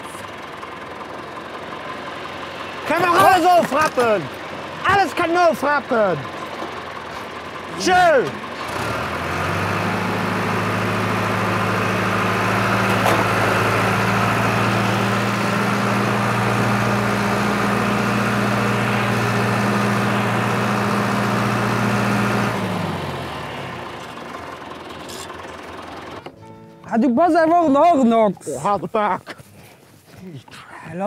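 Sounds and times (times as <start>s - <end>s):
tractor engine running: 0.0s - 30.2s.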